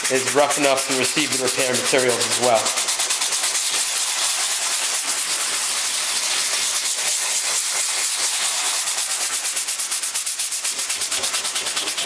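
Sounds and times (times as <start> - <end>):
sandpaper rubbing on fiberglass: 0.0 - 12.0.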